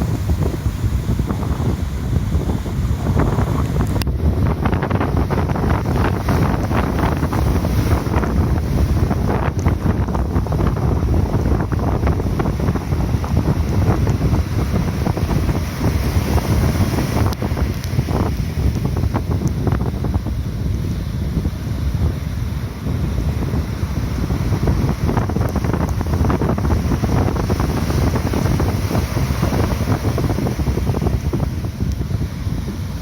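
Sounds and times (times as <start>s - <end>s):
surf breaking: 0.0s - 21.0s, 22.0s - 31.7s
wind buffeting microphone: 0.0s - 33.0s.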